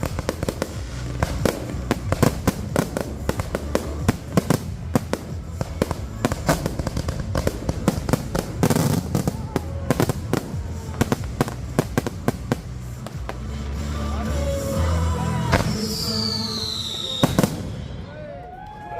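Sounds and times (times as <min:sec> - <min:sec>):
firework crackling: 0:00.0 - 0:18.7.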